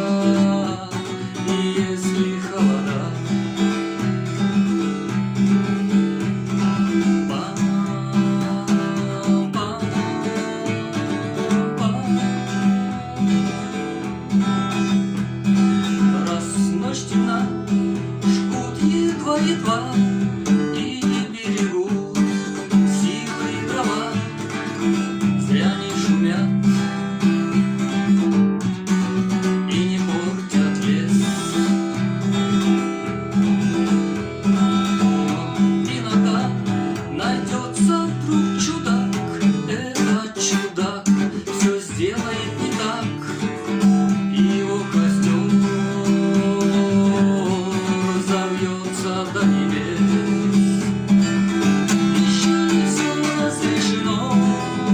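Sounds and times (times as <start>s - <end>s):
acoustic guitar strumming and picking: 0.0s - 54.9s.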